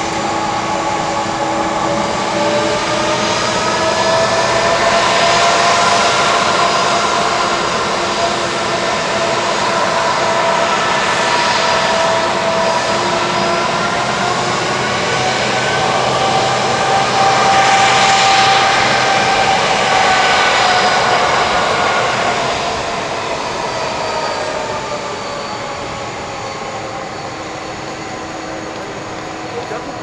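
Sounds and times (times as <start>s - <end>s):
jet airliner roaring past: 0.0s - 30.0s.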